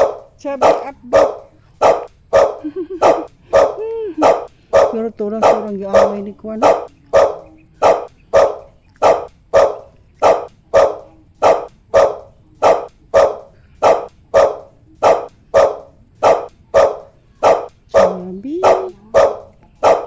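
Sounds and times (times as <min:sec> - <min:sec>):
dog barking: 0:00.0 - 0:20.0.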